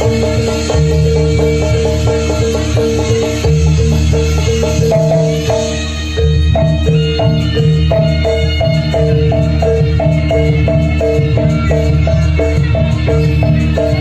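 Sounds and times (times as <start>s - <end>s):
gamelan metal keys: 0.0s - 14.0s.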